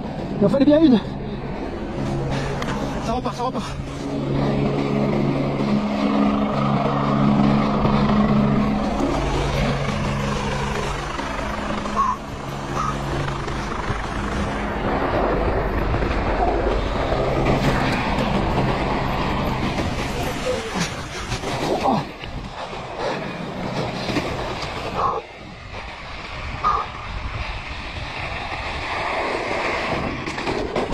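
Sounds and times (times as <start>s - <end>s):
steady low hum: 0.0s - 29.7s
wind rushing over microphone: 0.0s - 30.9s
bike tyres grinding through snow: 0.4s - 30.9s.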